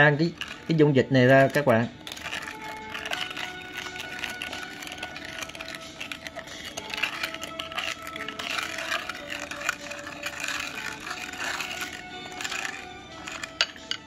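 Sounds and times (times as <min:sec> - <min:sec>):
soft background music: 0:00.0 - 0:14.0
spoon stirring in a bowl: 0:00.3 - 0:14.0.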